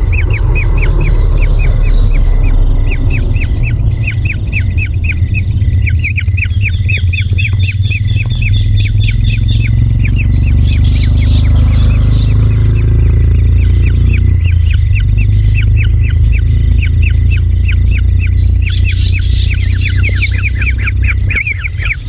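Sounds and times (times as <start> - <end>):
low rumble: 0.0 - 22.0
pulsing insect trill: 0.0 - 22.0.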